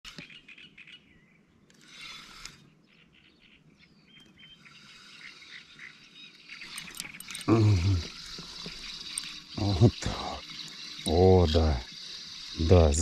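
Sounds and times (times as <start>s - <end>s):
small birds chirping faintly: 0.1s - 13.0s.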